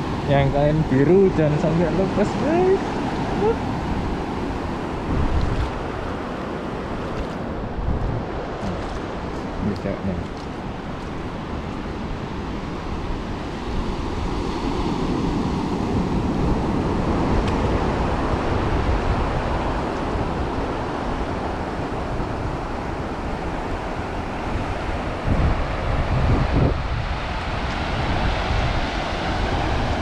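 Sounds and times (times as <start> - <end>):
surf washing onto beach: 0.0 - 30.0
wind buffeting microphone: 0.0 - 30.0.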